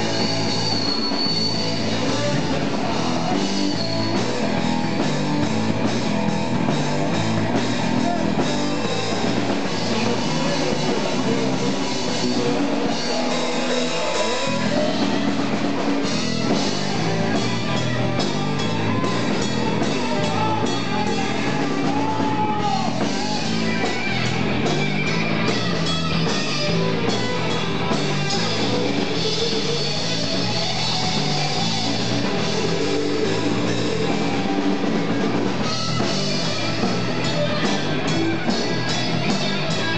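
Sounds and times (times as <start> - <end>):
drum kit: 0.0 - 39.9
electric guitar: 0.0 - 39.9
live rock band: 0.0 - 39.9.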